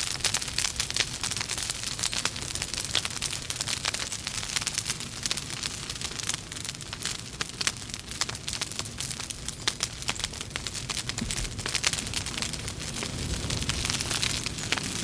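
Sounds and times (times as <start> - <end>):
logs crackling and popping: 0.0 - 15.0.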